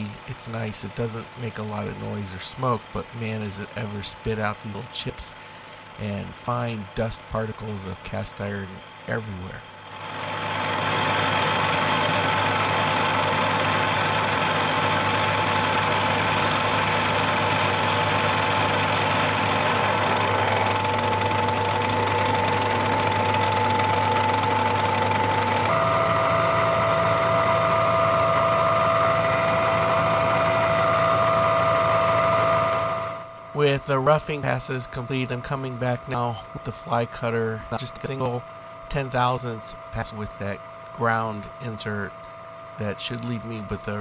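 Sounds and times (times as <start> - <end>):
metal cutting noise: 0.0 - 44.0
milling machine motor whine: 0.0 - 44.0.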